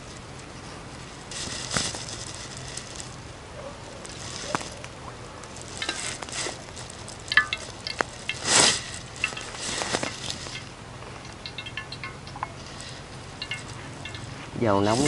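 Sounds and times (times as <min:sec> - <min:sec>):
oil sizzling in a wok: 0:02.4 - 0:14.5.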